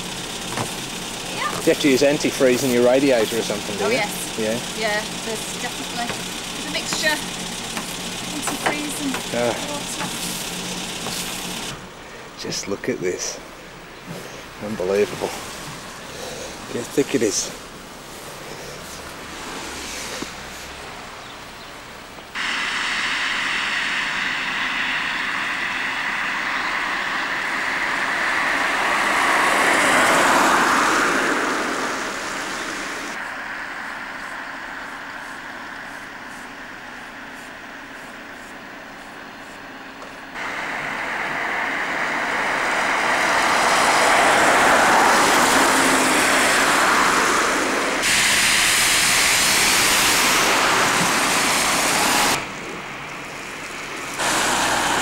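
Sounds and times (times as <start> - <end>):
tyre hiss of passing cars: 0.0 - 55.0.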